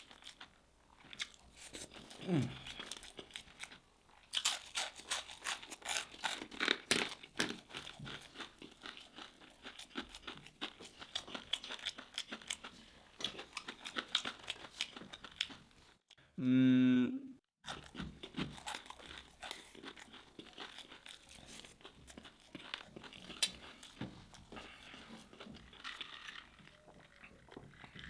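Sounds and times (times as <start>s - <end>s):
crunching and chewing fried food: 0.0s - 16.1s, 17.6s - 28.0s.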